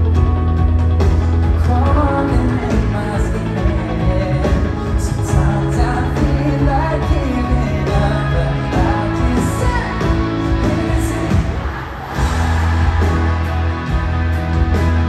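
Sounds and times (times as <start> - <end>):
live pop-rock band: 0.0 - 15.0
person singing: 1.2 - 15.0.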